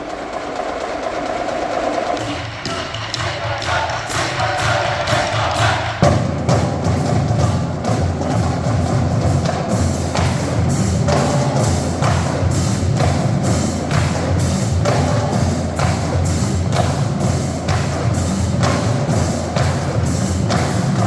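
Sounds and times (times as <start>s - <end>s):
drumline playing fast percussion: 0.0s - 21.0s
heavy low drums: 0.0s - 21.0s.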